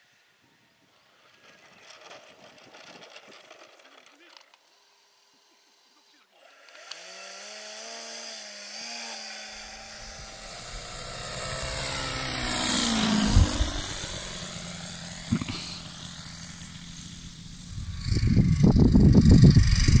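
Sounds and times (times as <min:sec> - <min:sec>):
model plane passing by: 0:00.0 - 0:20.0
model plane engine ticking over: 0:01.0 - 0:07.5, 0:08.1 - 0:20.0.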